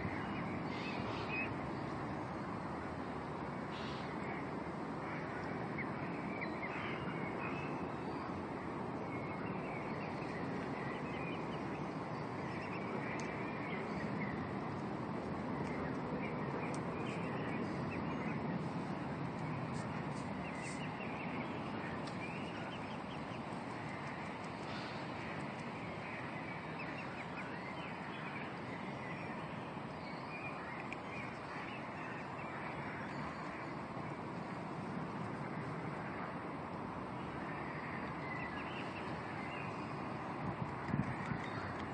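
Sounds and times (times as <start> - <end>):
steady background rumble: 0.0 - 41.9.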